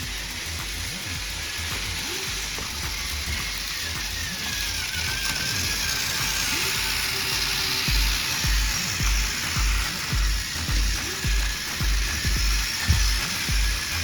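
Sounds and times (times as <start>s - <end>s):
toy trains whirring and rattling: 0.0s - 14.0s.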